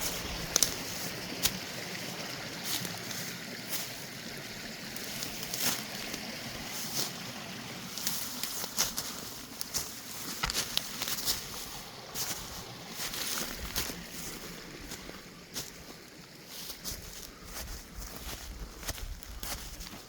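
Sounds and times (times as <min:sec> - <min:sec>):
footsteps crunching through brush: 0:00.0 - 0:20.0
mountain creek rushing: 0:00.0 - 0:20.0.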